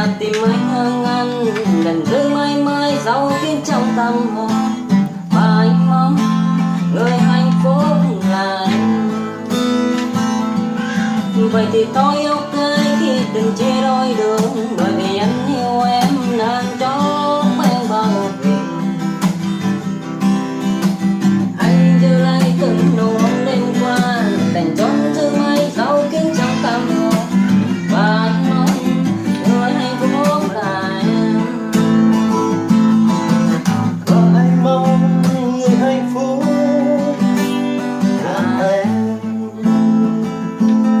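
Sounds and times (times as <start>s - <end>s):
acoustic guitar strummed chords: 0.0s - 41.0s
sliding guitar melody: 0.0s - 41.0s.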